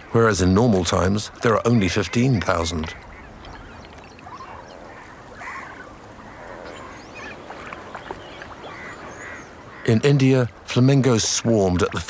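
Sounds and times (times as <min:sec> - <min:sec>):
flamingos honking and chattering: 0:00.0 - 0:12.0.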